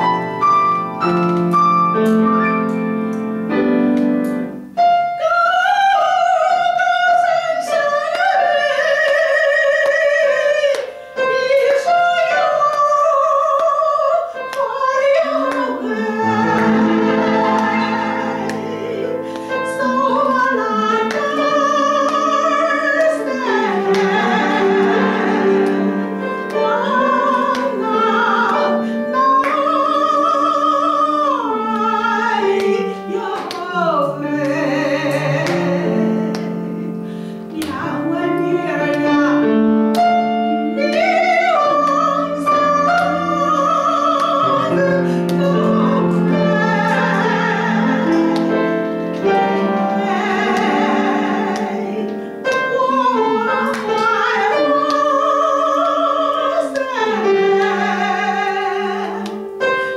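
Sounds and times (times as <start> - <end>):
piano: 0.0 - 59.9
woman singing operatically: 5.1 - 36.4, 37.5 - 39.5, 40.4 - 48.6, 49.3 - 59.9.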